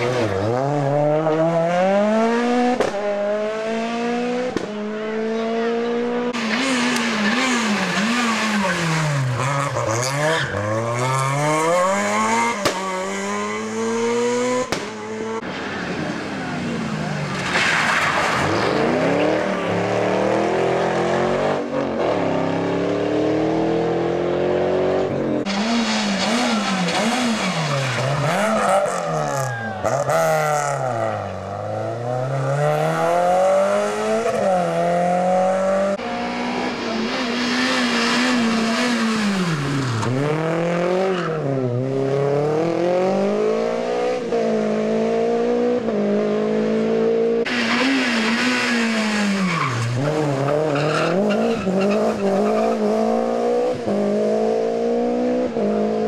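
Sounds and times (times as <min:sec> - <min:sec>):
rally car engines accelerating: 0:00.0 - 0:56.0.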